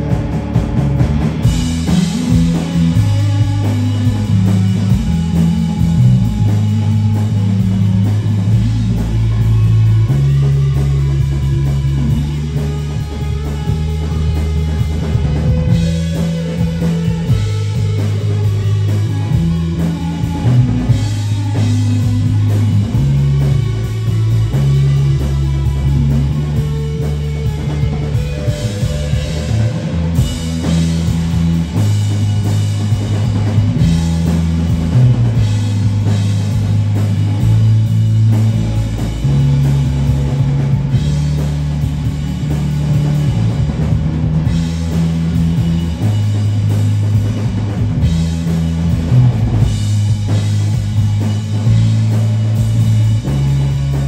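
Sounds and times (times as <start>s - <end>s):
drum kit: 0.0s - 54.0s
electric guitars: 0.0s - 54.0s
low bass line: 0.0s - 54.0s.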